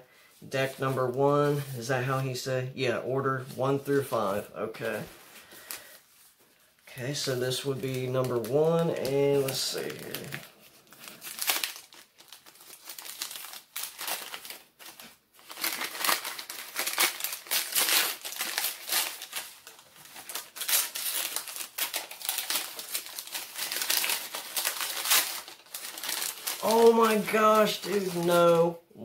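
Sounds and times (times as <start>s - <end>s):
paper and bubble wrap crinkling: 5.0s - 28.8s.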